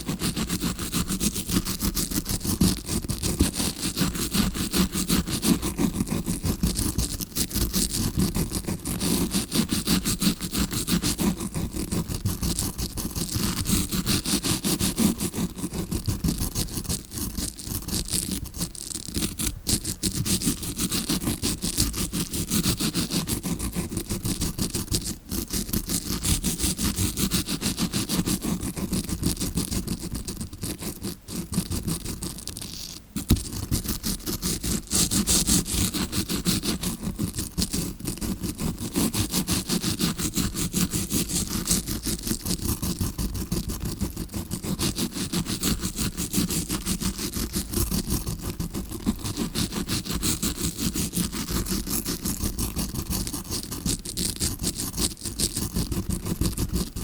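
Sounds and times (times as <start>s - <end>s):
brush scratching on microphone: 0.0s - 57.0s.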